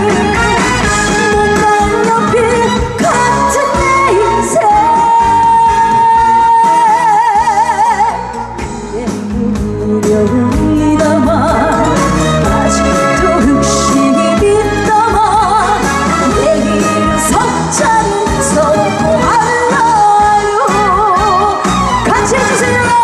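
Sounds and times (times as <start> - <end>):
band playing: 0.0 - 23.0
person singing: 0.0 - 23.0.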